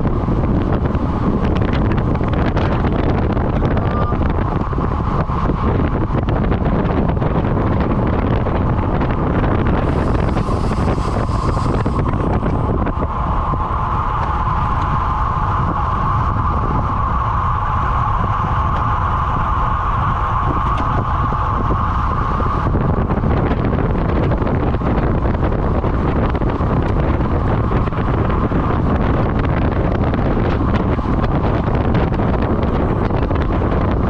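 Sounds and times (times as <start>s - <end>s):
mid-pitched hum: 0.0s - 34.0s
wind buffeting microphone: 0.0s - 34.0s.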